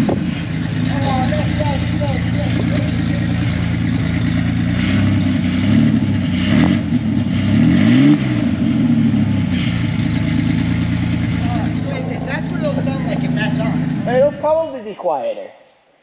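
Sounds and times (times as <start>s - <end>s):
car engine revving through open exhaust: 0.0s - 14.4s.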